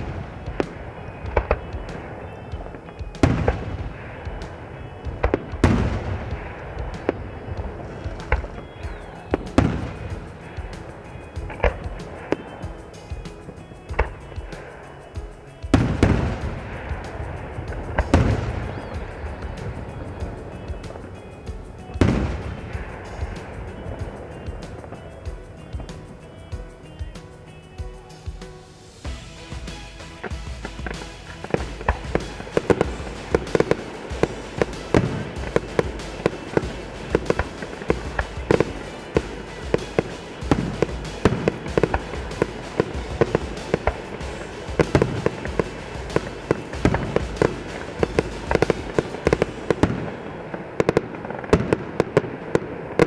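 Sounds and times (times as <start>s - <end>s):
fireworks bursting: 0.0s - 53.0s
music: 0.0s - 53.0s.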